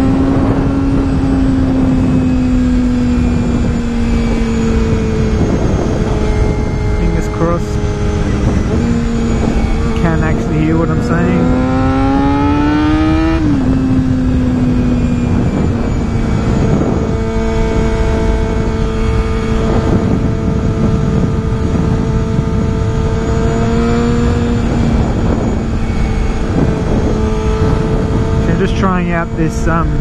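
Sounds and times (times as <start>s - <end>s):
heavy wind rush: 0.0s - 30.0s
motorcycle engine running: 0.0s - 30.0s.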